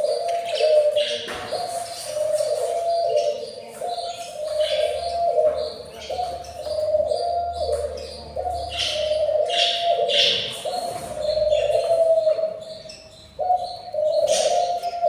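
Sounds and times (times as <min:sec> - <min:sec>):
budgies chirping: 0:00.0 - 0:15.0.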